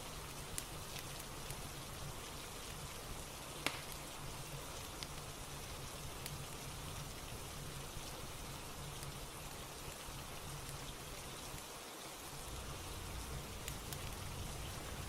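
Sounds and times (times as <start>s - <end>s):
fireplace crackling: 0.0s - 15.0s
steady rain: 0.0s - 15.0s.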